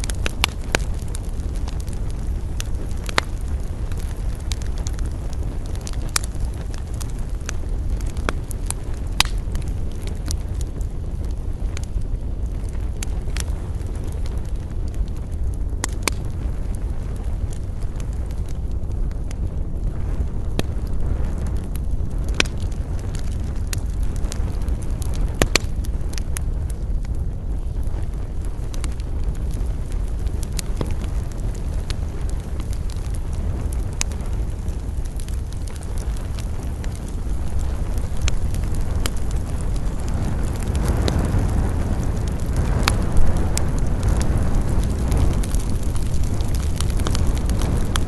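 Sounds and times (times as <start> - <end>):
burning wood popping: 0.0 - 48.0
campfire crackling: 0.0 - 48.0
steady low rumble: 0.0 - 48.0.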